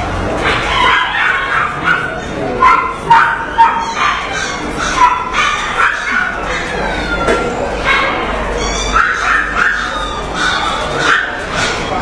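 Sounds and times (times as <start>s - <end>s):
dog yelping and whining: 0.5s - 12.0s.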